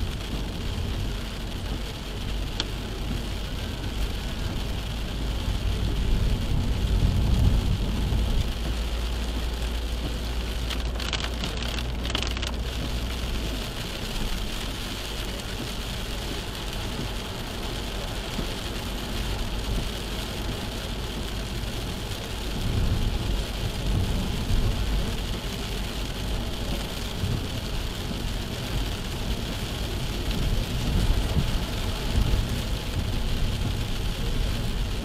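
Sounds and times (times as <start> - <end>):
car engine and road noise: 0.0 - 35.0
rain and tyre spray hiss: 0.0 - 35.0.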